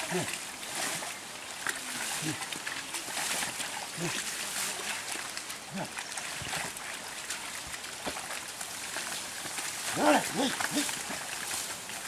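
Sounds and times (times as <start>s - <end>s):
water sloshing and mud squelching: 0.0s - 12.0s.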